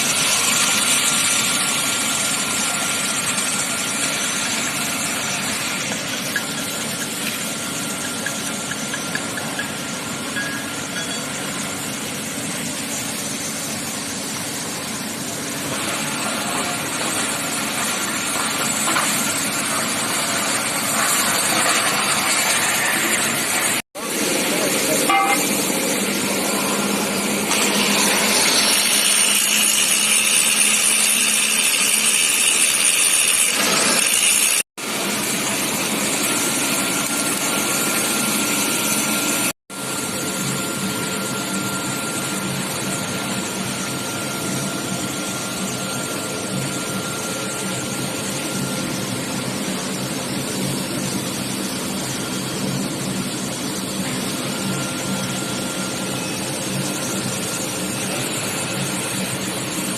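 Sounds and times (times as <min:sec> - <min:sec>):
machine running steadily: 0:00.0 - 0:59.9.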